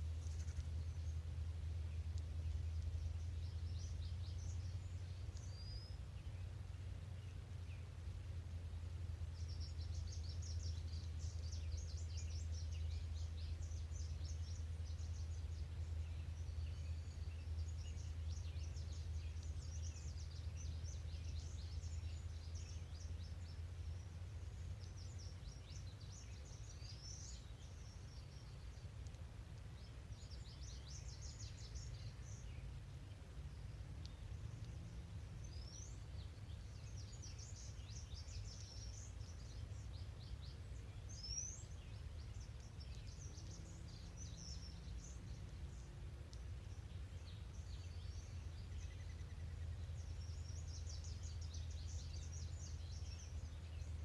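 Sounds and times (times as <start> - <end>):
songbirds twittering: 0.0 - 54.0
steady low hum: 0.0 - 54.0.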